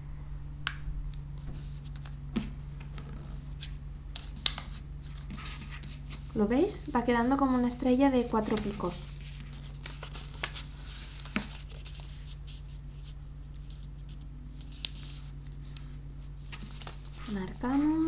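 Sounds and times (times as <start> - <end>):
steady low hum: 0.0 - 18.0
paper rustling and sliding: 1.4 - 18.0.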